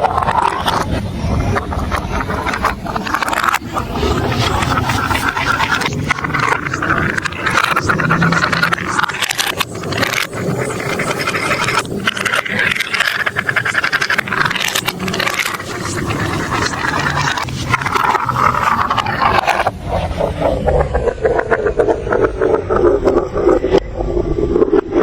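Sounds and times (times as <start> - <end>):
marbles rolling on plastic tracks: 0.0 - 23.8.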